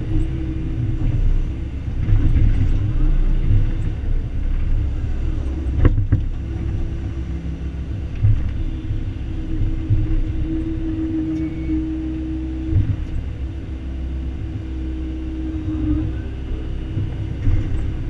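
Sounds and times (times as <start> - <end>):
excavator diesel engine rumbling: 0.0 - 18.0
steady hum: 0.0 - 18.0.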